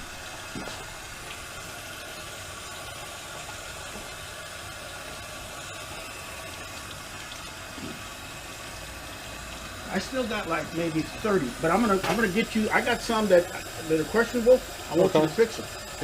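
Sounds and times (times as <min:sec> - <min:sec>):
water rushing through pipes: 0:00.0 - 0:16.0.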